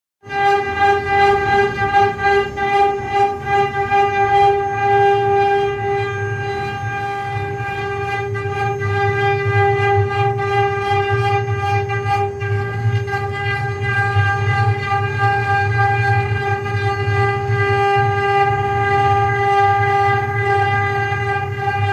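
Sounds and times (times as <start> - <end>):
router spindle whining: 0.2 - 21.9.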